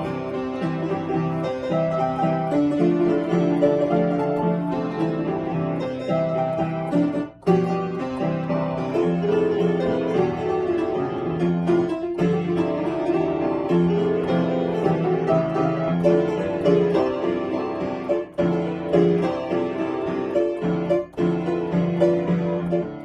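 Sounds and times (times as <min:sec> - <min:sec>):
solo piano piece: 0:00.0 - 0:23.0.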